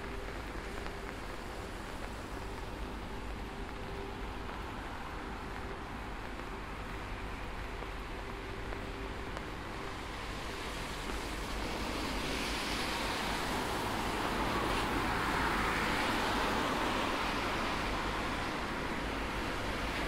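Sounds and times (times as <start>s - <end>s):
rain hiss: 0.0s - 20.0s
tyres hissing on wet road: 0.0s - 20.0s.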